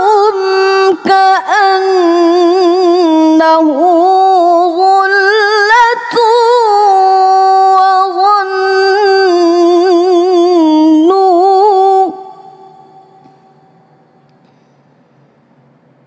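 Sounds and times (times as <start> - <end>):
woman reciting melodically: 0.0 - 14.1.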